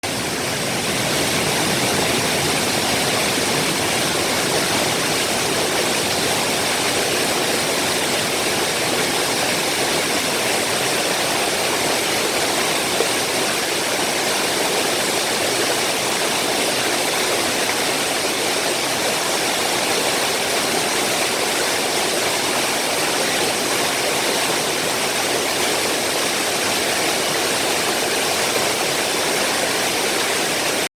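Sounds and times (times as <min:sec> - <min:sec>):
waterfall crashing: 0:00.0 - 0:30.9.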